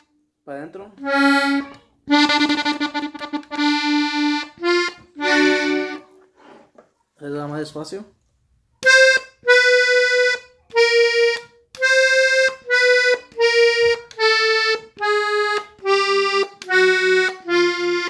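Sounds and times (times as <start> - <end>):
button accordion notes: 1.0 - 6.3, 8.8 - 18.0.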